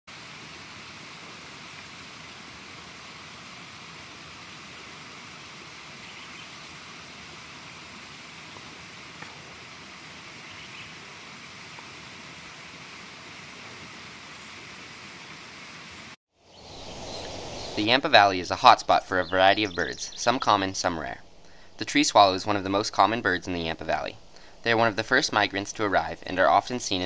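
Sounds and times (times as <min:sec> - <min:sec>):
outdoor rushing hiss: 0:00.1 - 0:27.0.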